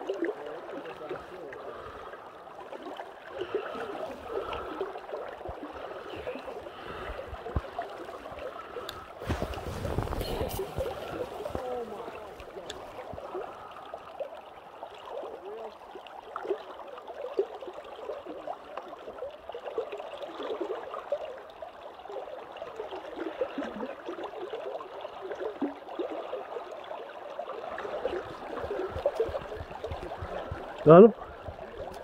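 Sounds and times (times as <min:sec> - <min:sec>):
river water gurgling: 0:00.0 - 0:32.0.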